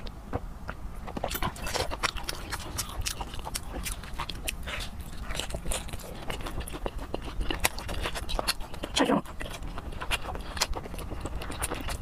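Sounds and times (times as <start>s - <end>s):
wet clicks and smacks of eating: 0.0s - 12.0s.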